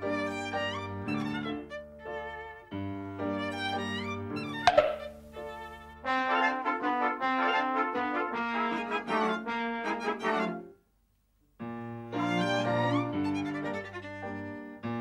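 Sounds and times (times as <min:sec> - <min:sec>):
instrumental music with violin: 0:00.0 - 0:10.7, 0:11.6 - 0:15.0.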